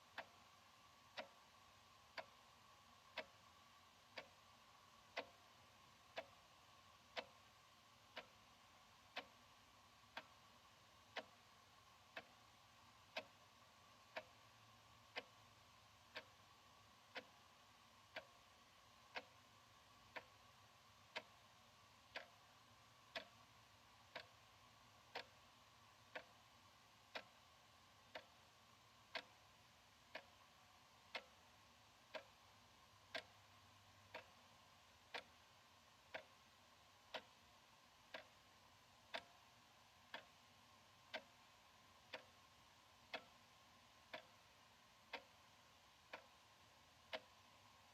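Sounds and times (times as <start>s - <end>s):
wall clock ticking: 0.0s - 47.9s.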